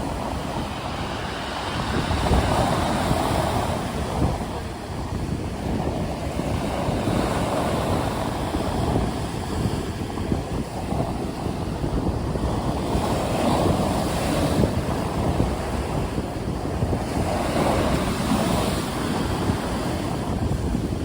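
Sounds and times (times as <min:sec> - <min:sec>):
sea surf breaking: 0:00.0 - 0:21.0
wind rumbling on microphone: 0:00.0 - 0:21.0.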